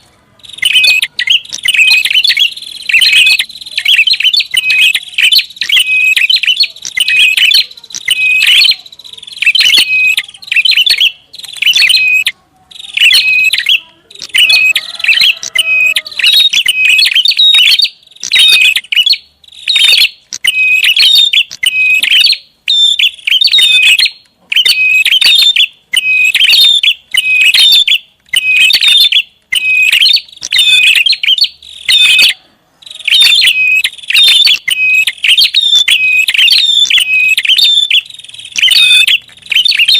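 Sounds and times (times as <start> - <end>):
bird chirping in rapid bursts: 0.0 - 39.9.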